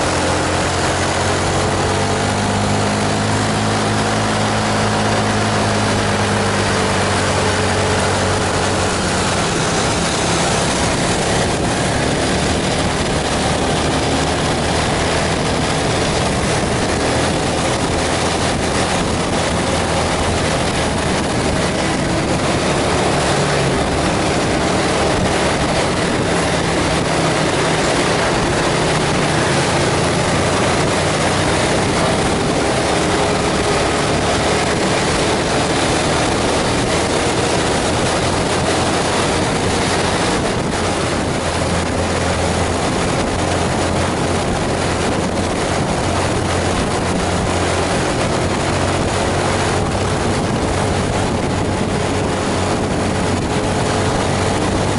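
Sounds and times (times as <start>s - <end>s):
bus engine running: 0.0s - 54.9s
rain: 0.0s - 54.9s
tyres hissing on wet road: 0.0s - 54.9s.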